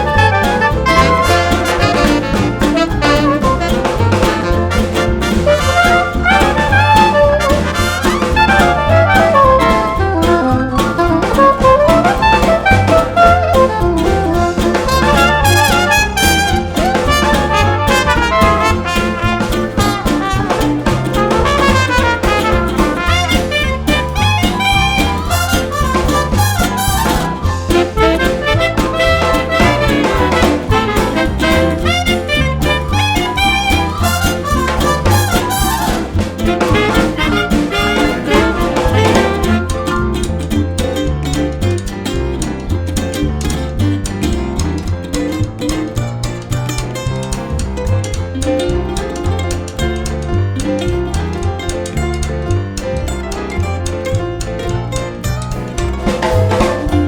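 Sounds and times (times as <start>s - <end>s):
upbeat jazz with brass and drums: 0.0s - 57.0s.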